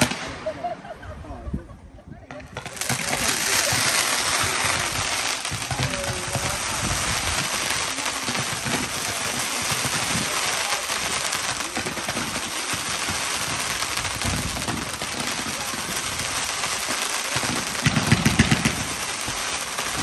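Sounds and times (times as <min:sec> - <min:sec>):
fireworks crackling hiss: 0:00.0 - 0:00.7, 0:02.4 - 0:20.0.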